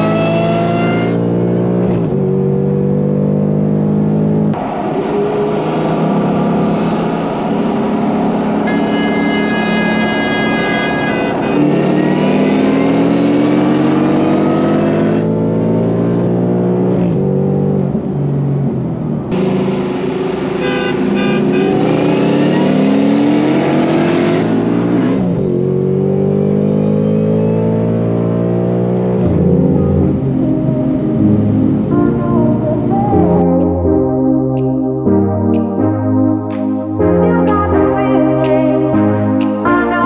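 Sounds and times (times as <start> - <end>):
car engine accelerating hard: 0.0 - 33.4.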